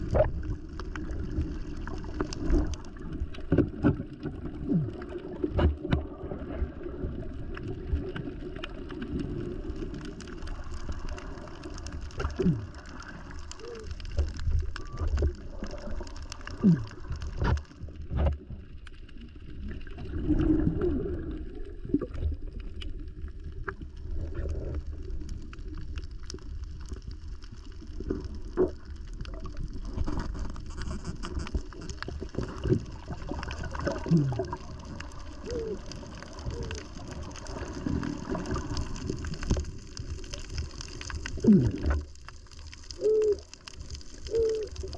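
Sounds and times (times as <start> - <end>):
gurgling bubbles: 0.0 - 44.9
muffled underwater water noise: 0.0 - 44.9.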